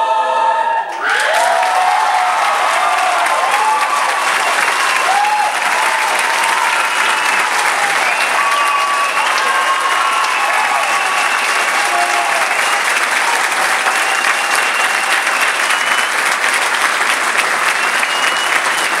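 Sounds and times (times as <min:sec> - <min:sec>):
high calls from audience: 0:00.1 - 0:19.0
audience applauding: 0:00.9 - 0:19.0.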